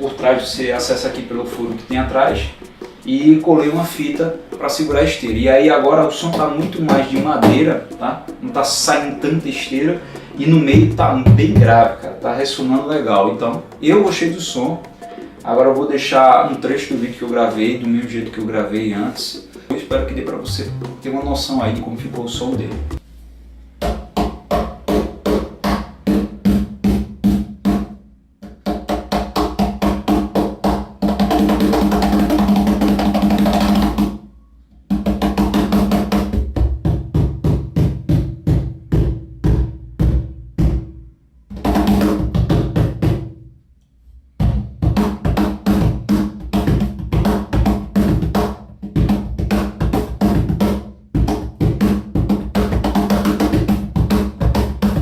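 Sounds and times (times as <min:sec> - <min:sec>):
cajon played by hand: 0:00.0 - 0:23.0, 0:23.8 - 0:34.2, 0:34.8 - 0:43.4, 0:44.4 - 0:55.0.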